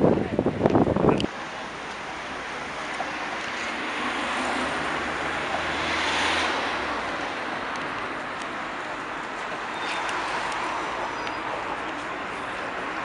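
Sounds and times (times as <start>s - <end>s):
car passing: 1.4s - 13.0s.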